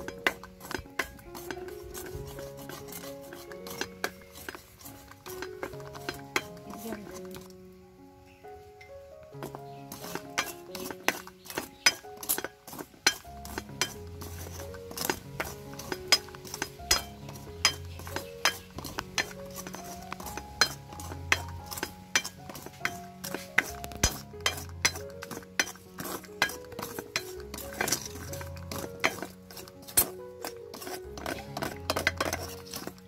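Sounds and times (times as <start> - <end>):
metal spoon scraping a wok: 0.0 - 7.6, 9.3 - 33.0
background music: 0.0 - 33.0.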